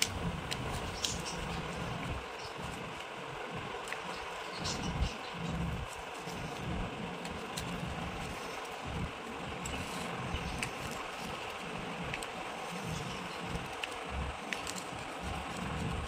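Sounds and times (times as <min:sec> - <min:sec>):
background hiss and rumble: 0:00.0 - 0:16.0.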